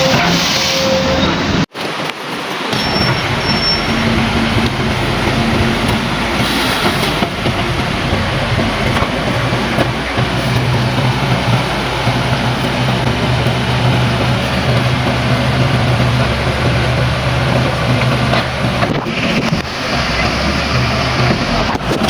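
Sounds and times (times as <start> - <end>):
backhoe diesel engine running: 2.8 - 22.0.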